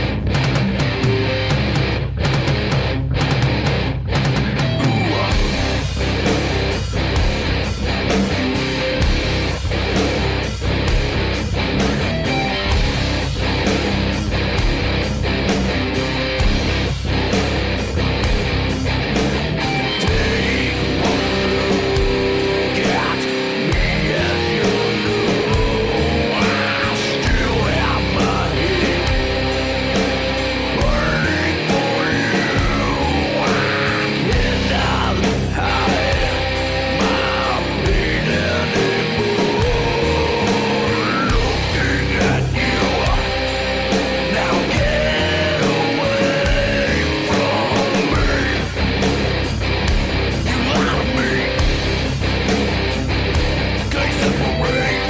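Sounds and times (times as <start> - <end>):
distorted electric guitars: 0.0 - 55.0
drums with cymbal hits: 0.0 - 55.0
rock song: 0.0 - 55.0.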